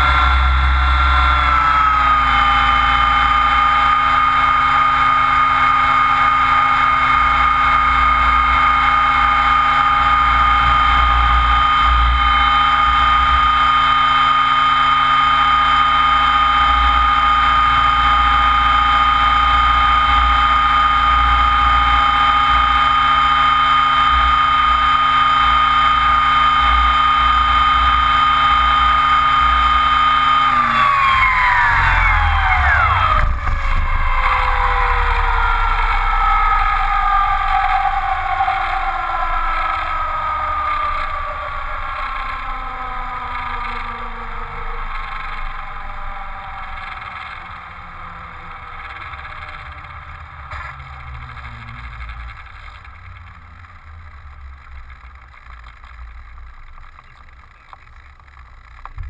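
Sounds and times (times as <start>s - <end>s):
rc helicopter motor whine: 0.0s - 59.0s.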